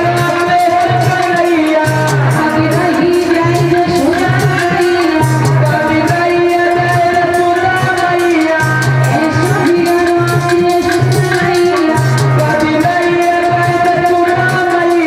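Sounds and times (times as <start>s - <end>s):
hand-drum beat: 0.0s - 15.0s
sustained melody line: 0.0s - 15.0s
woman singing: 0.0s - 15.0s.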